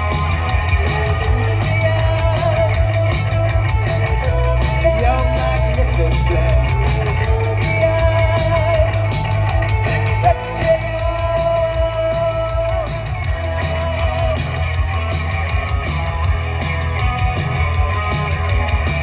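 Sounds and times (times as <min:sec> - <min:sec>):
bass guitar: 0:00.0 - 0:19.0
electric guitar: 0:00.0 - 0:19.0
steady drum beat: 0:00.0 - 0:19.0.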